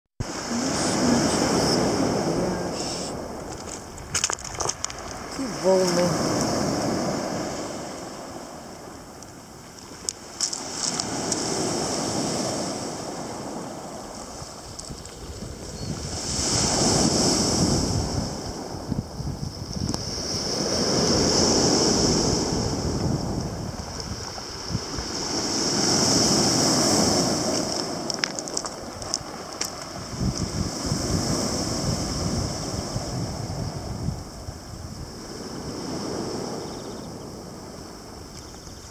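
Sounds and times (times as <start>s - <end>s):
sea waves on shore: 0.2s - 38.9s
wind buffeting the microphone: 0.2s - 38.9s.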